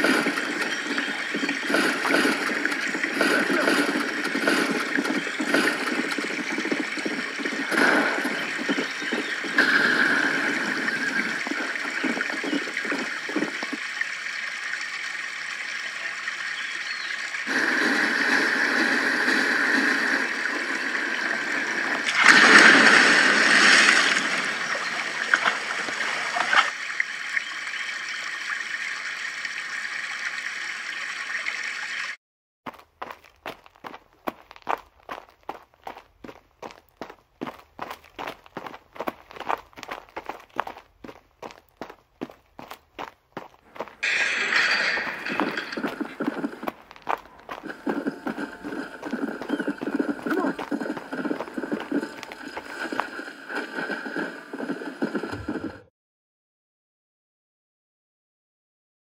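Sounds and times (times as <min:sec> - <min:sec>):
river water gurgling and splashing: 0:00.0 - 0:32.2, 0:37.4 - 0:55.9.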